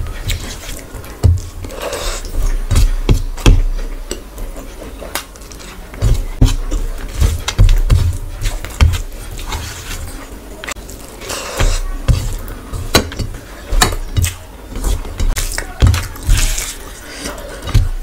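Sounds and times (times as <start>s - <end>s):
fingers mixing rice on metal plate: 0.0s - 18.0s.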